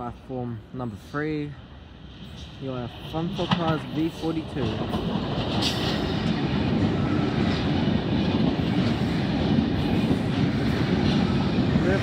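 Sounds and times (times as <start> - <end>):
train passing with rumble: 0.0 - 12.0.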